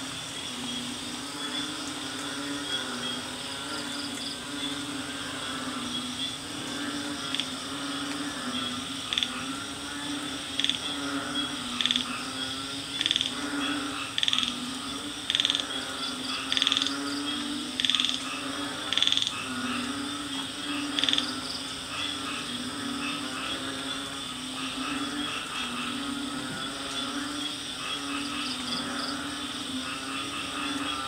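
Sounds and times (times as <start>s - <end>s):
frogs calling: 0.0s - 31.0s.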